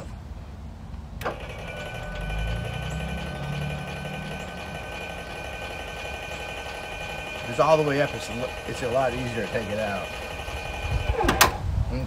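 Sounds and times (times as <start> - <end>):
electric motor whining: 1.2 - 11.6.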